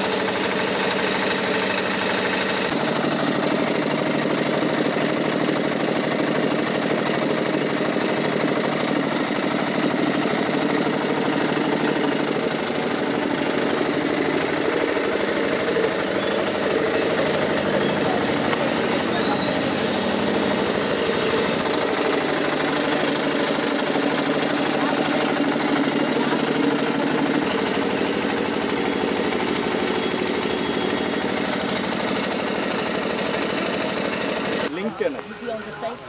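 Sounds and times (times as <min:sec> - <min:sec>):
pump engine running steadily: 0:00.0 - 0:36.0.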